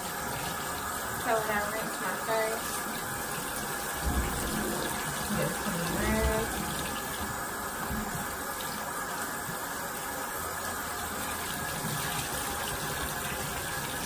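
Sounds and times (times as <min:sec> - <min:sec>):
water running from faucet: 0:00.0 - 0:14.0.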